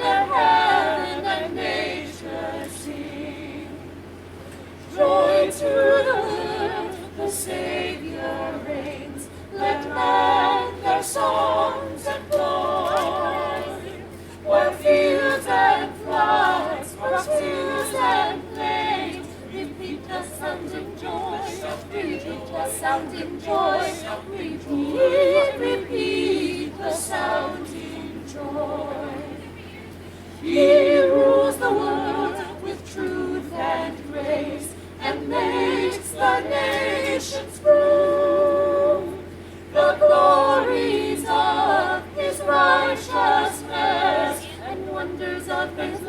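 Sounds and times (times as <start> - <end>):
choir singing a cappella: 0.0 - 4.2, 4.8 - 46.0.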